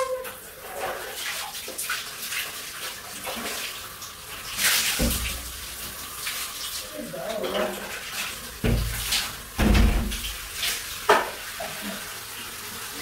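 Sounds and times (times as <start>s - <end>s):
shower water splashing: 0.0s - 13.0s.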